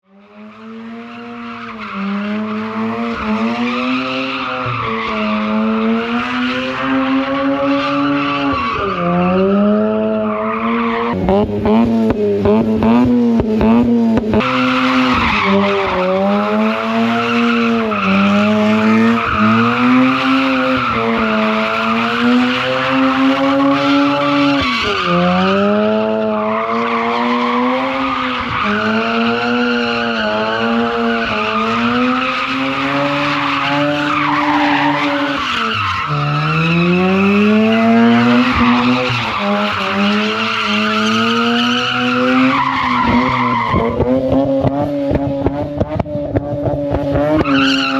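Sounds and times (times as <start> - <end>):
rotary engine revving high: 0.1 - 47.9
tire squeal: 0.7 - 11.2, 14.3 - 46.0, 46.6 - 47.9.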